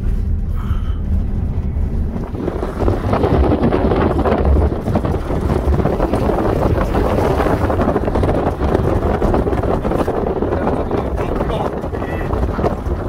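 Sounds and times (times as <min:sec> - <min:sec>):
car engine and tyre rumble: 0:00.0 - 0:13.0
wind buffeting microphone: 0:00.0 - 0:13.0.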